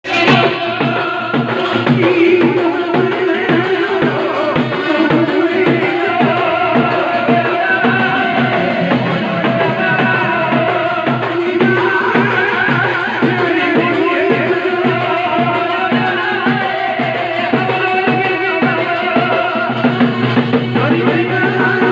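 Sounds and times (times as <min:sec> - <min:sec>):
dhol drum beating: 0:00.0 - 0:21.9.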